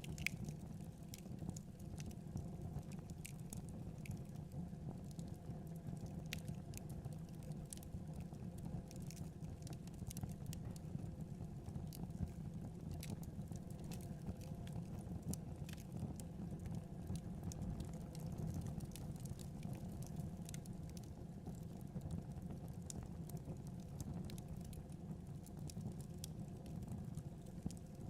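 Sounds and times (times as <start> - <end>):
fire crackling and popping: 0.0 - 28.0
fire flames rumbling: 0.1 - 28.0.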